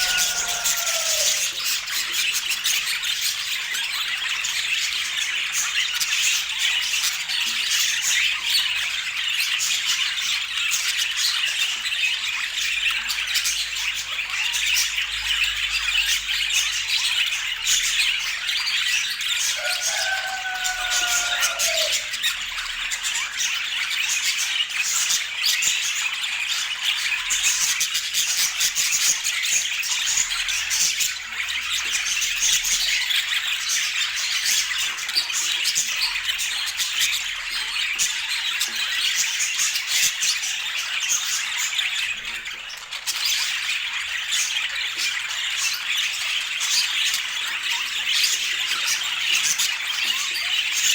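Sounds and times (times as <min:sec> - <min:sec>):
budgerigars chattering and squawking: 0:00.0 - 0:50.9.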